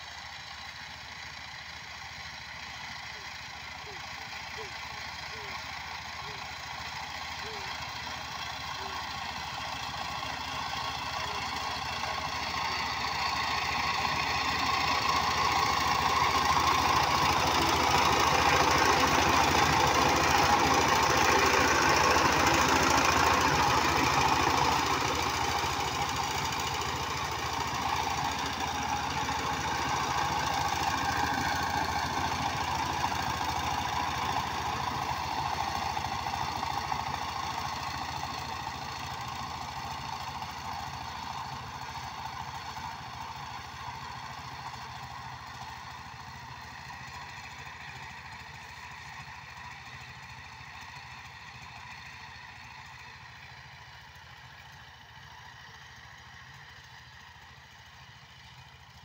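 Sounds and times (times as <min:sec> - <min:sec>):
diesel tiller engine running: 0:00.0 - 0:59.0.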